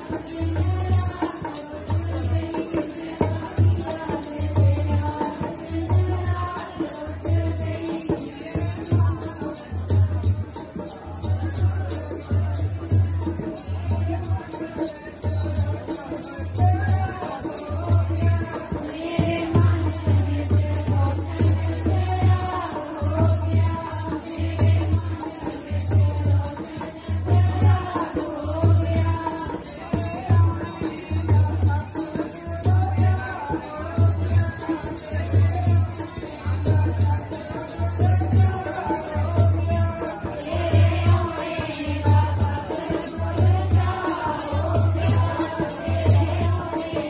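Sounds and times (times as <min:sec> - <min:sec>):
devotional hymn singing: 0:00.0 - 0:10.0, 0:15.9 - 0:47.0
percussion: 0:00.0 - 0:47.0.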